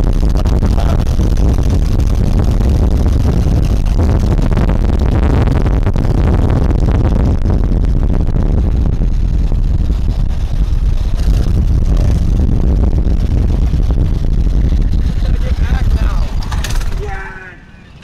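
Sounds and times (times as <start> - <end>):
vehicle rumble at speed: 0.0 - 18.0
wind buffeting microphone: 0.0 - 18.0.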